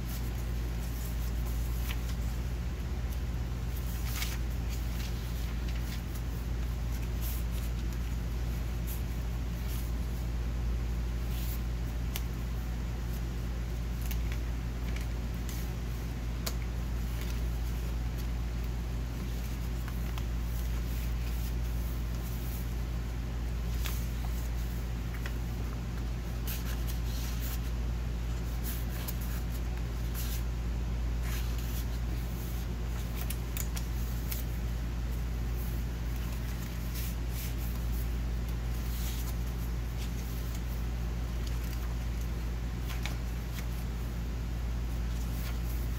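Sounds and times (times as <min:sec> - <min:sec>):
paper pages rustling: 0:00.0 - 0:10.3, 0:10.9 - 0:45.9
steady low hum: 0:00.0 - 0:45.9.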